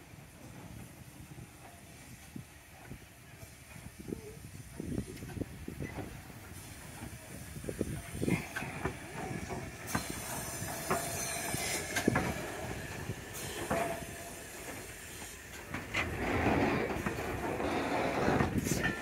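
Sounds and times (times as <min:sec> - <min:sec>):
steam hiss: 0:00.0 - 0:19.0
steam locomotive wheels clanking: 0:00.0 - 0:19.0.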